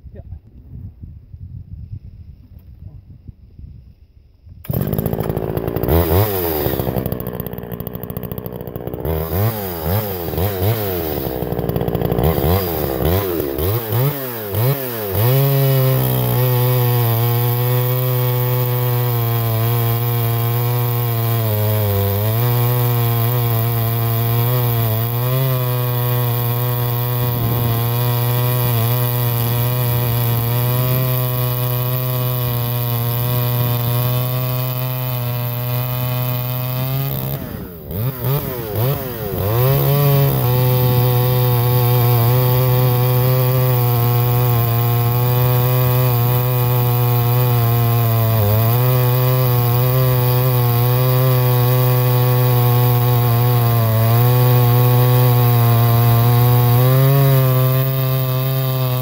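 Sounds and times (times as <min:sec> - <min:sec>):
two-stroke chainsaw revving: 0:04.6 - 0:59.0.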